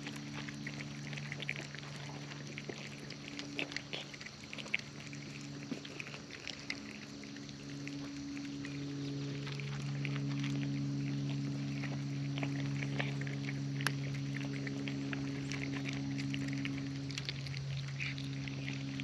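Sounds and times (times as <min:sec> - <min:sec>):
cat chewing and licking: 0:00.0 - 0:19.0
low electrical hum: 0:00.0 - 0:19.0.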